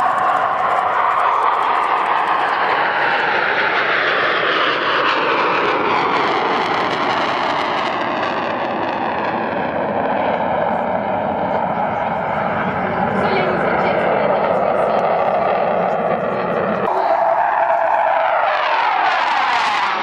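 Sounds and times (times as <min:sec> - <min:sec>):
jet passing low: 0:00.0 - 0:20.0.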